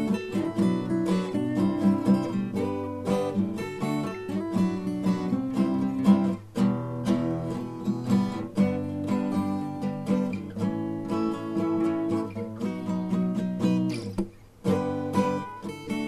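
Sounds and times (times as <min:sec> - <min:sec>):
acoustic guitar tune: 0:00.0 - 0:16.0.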